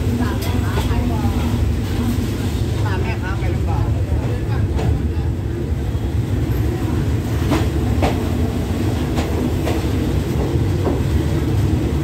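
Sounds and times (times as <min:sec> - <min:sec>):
train carriage rumbling: 0:00.0 - 0:12.0.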